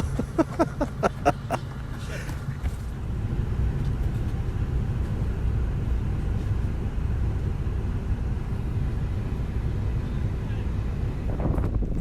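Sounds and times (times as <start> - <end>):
off-road vehicle rumbling: 0.0 - 12.0.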